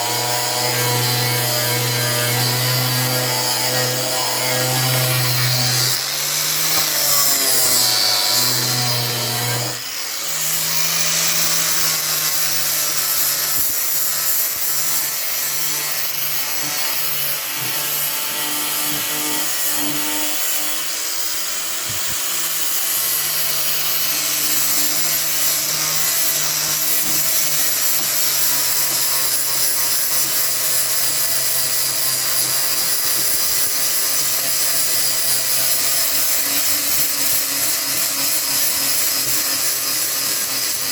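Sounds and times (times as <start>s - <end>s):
abrasive rasping on wood: 0.0s - 40.9s.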